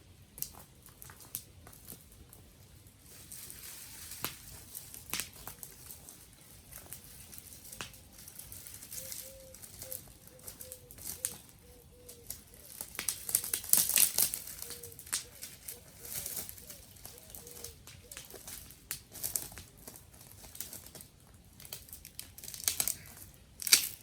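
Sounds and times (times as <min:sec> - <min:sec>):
dry sticks crackling and snapping: 0:00.3 - 0:24.0.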